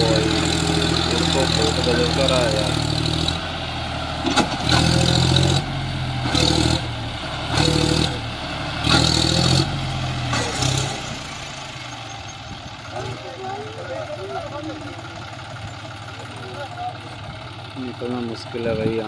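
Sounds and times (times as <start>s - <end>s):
tractor diesel engine revving: 0.0s - 19.0s.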